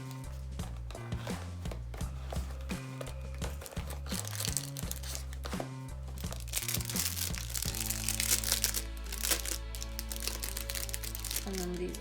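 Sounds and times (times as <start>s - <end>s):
background music with bass line: 0.0s - 12.0s
plastic packaging crinkling: 2.3s - 12.0s.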